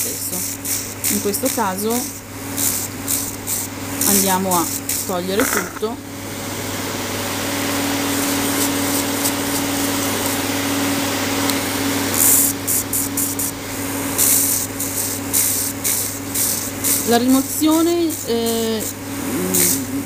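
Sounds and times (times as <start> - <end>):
drill bit rasping on nail: 0.0 - 5.9, 8.1 - 10.4, 12.1 - 20.0
dust collector fan hum: 0.0 - 20.0
electric nail drill grinding: 0.0 - 20.0.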